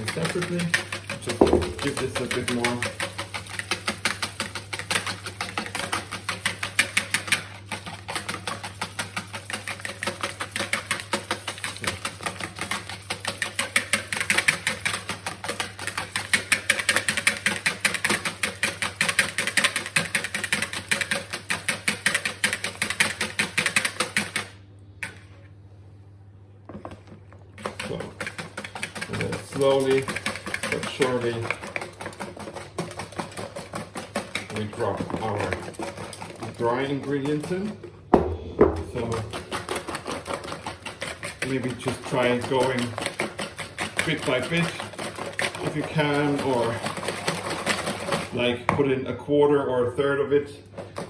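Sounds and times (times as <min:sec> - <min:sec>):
utensil beating batter in bowl: 0:00.0 - 0:25.4, 0:26.7 - 0:51.0.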